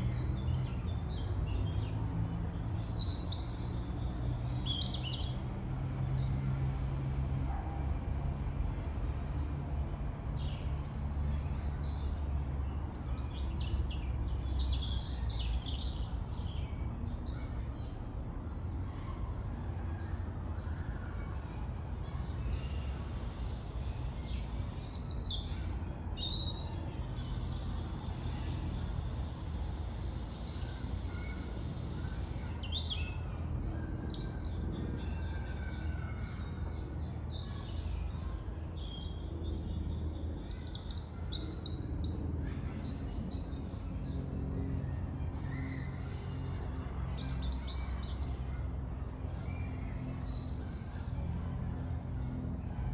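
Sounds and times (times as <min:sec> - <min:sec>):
traffic rumble: 0:00.0 - 0:52.9.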